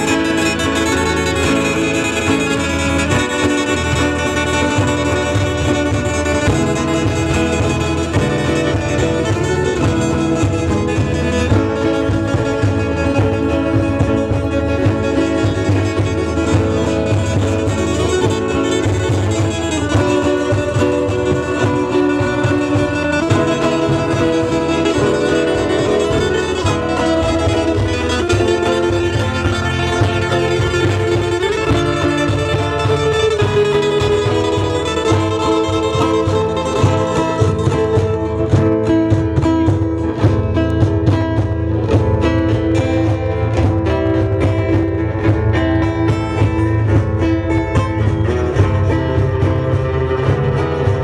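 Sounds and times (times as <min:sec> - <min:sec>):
bowed strings long notes: 0:00.0 - 0:51.0
plucked guitar chords: 0:00.0 - 0:51.0.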